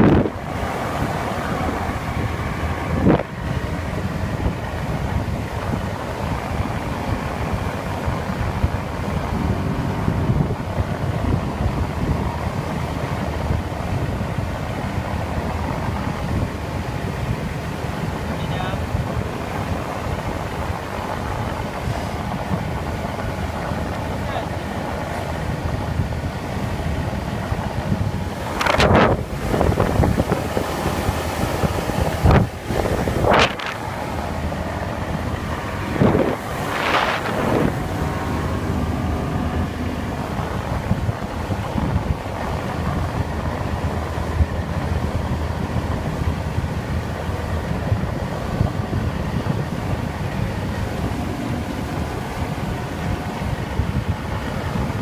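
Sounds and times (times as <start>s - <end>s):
boat engine rumble: 0.0s - 55.0s
water wash: 0.0s - 55.0s
wind buffeting microphone: 0.0s - 55.0s.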